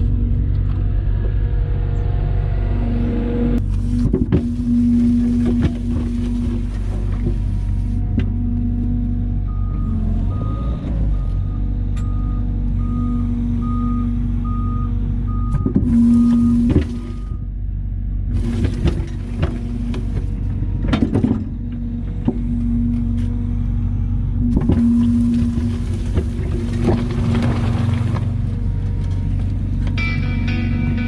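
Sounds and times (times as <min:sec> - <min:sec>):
excavator engine drone: 0:00.0 - 0:31.0.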